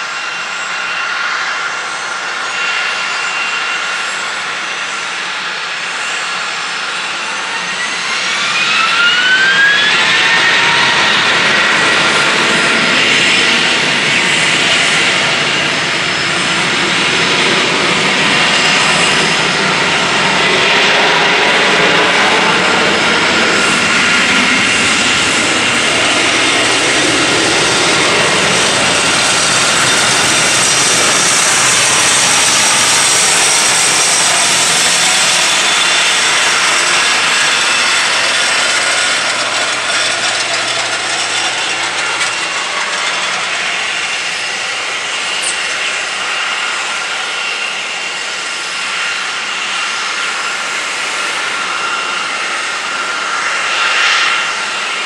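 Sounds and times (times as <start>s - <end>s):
helicopter turbine whine: 0.0s - 55.0s.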